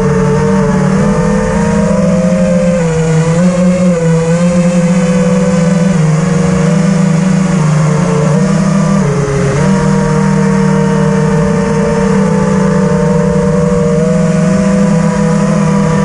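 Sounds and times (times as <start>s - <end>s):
quadcopter motors buzzing whine: 0.0s - 16.0s.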